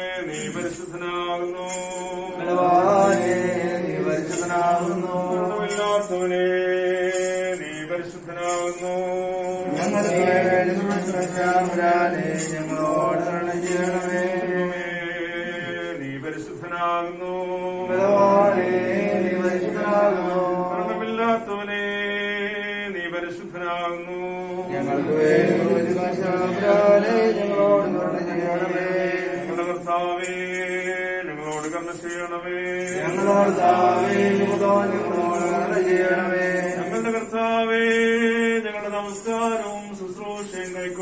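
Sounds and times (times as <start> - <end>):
voices singing a hymn: 0.0 - 22.8, 23.8 - 41.0.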